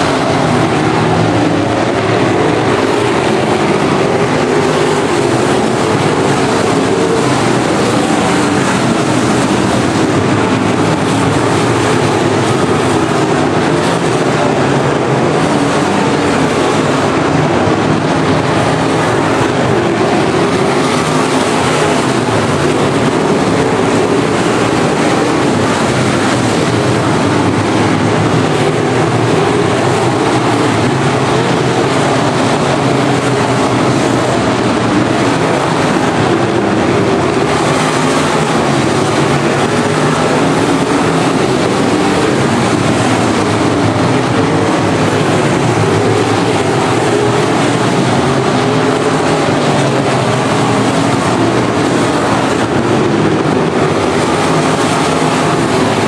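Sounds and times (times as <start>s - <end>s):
race car engines roaring: 0.0s - 56.0s.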